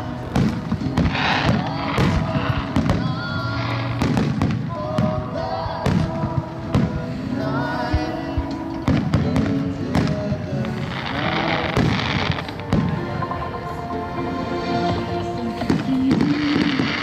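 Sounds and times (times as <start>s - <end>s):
fireworks bangs: 0.0s - 13.8s, 14.6s - 17.0s
loud music with sustained notes: 0.0s - 17.0s.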